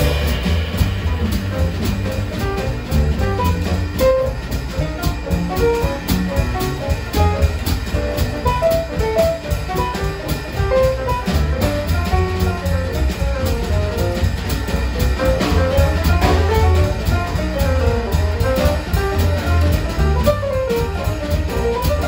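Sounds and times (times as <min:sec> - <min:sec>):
drum kit cymbals: 0:00.0 - 0:22.0
grand piano melody: 0:00.0 - 0:22.0
plucked double bass: 0:00.0 - 0:22.0.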